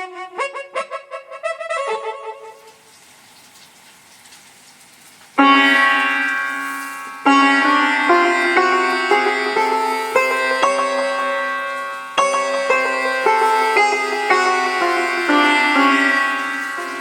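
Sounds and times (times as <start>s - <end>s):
keyboard sitar notes: 0.0s - 2.8s, 5.4s - 17.0s.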